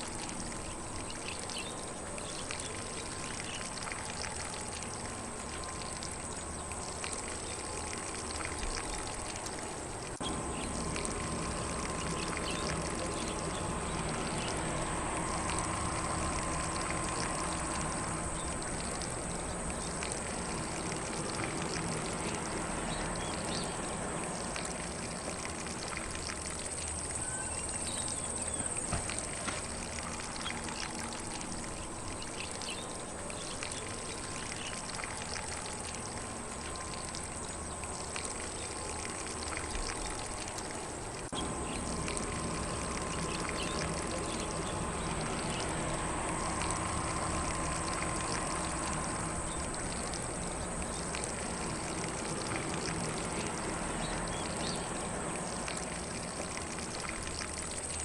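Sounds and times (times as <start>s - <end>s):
faint birdsong: 0.0s - 46.8s, 47.4s - 57.2s
sprinkler spraying water: 0.0s - 58.0s.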